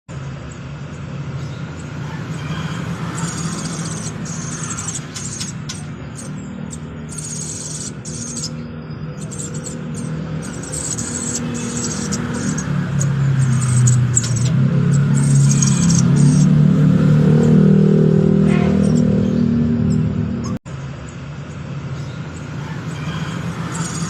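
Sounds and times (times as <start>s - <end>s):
bird chicks begging calls: 0.2s - 24.0s.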